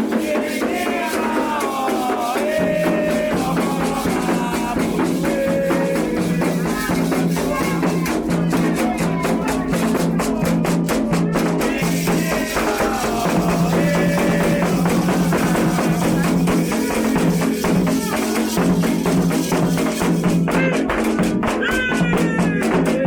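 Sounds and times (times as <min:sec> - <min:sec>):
drums and rattles rhythm: 0:00.0 - 0:23.0
voices singing: 0:00.0 - 0:23.0.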